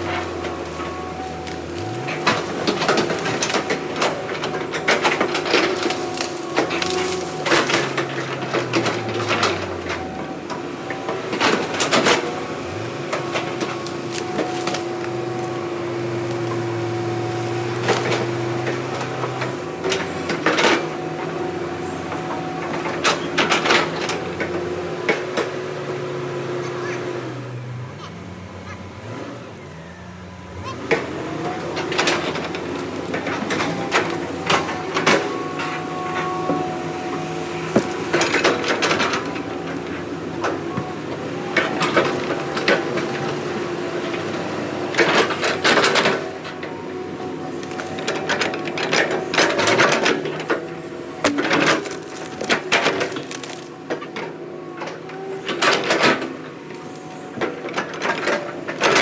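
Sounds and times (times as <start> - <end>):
heavy diesel engine working: 0.0 - 59.0.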